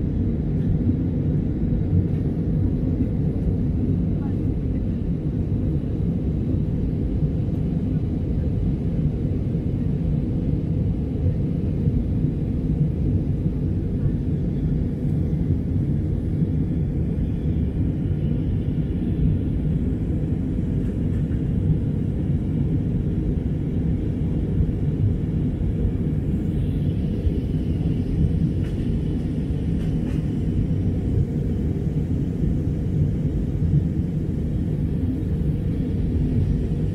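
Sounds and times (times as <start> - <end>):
aircraft cabin rumble: 0.0 - 36.9.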